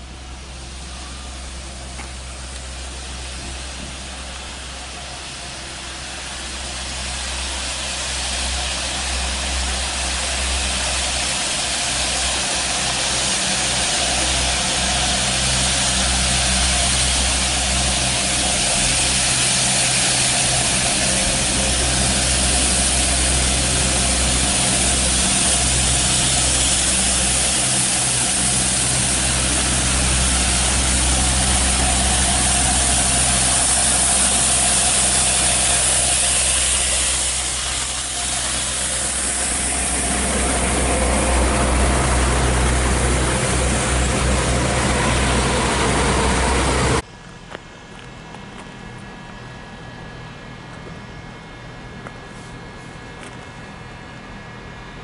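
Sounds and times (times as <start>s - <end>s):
train wheels rolling: 0.0s - 49.1s
diesel locomotive engine humming: 0.0s - 55.0s.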